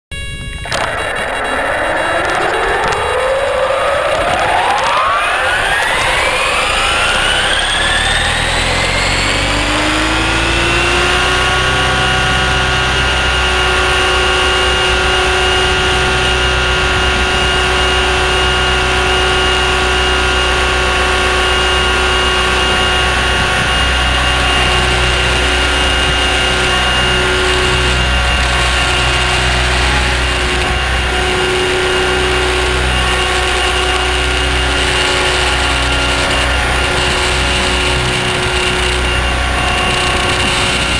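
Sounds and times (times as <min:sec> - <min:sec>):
low rotor rumble: 0:00.0 - 0:40.9
rc helicopter motor whine: 0:00.2 - 0:40.9.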